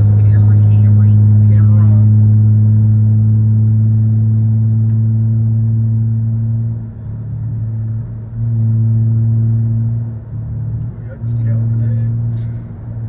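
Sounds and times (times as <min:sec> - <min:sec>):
car engine droning from inside: 0:00.0 - 0:13.0.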